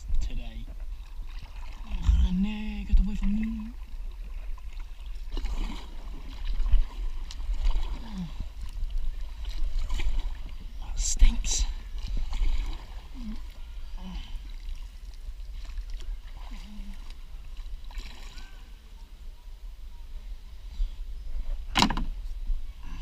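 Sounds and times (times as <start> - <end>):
wind rumble on microphone: 0.0 - 13.3, 14.8 - 23.0
water and paddle sounds: 0.0 - 23.0.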